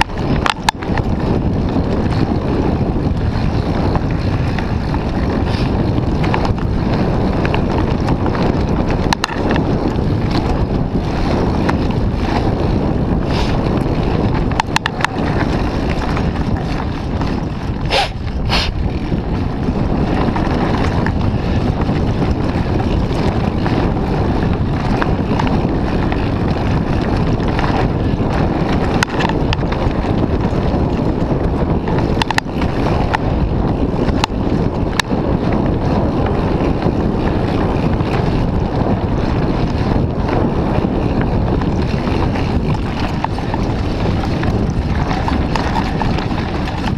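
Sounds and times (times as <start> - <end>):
bike rattling and knocking: 0.0 - 46.9
tyres rumbling over dirt: 0.0 - 46.9
wind buffeting microphone: 0.0 - 46.9.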